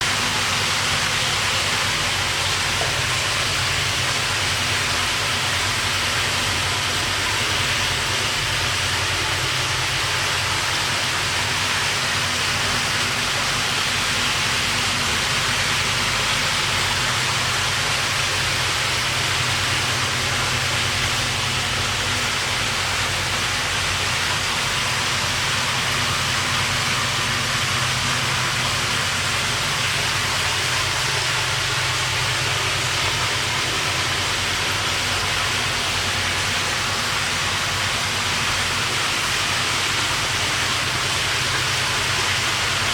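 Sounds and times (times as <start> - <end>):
pump humming: 0.0 - 42.9
running water rushing: 0.0 - 42.9.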